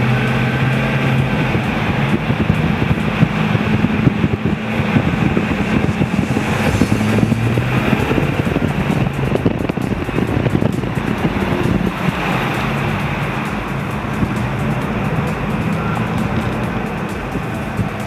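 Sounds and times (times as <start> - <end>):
car engine running: 0.0 - 18.0
rough noise: 0.0 - 18.0.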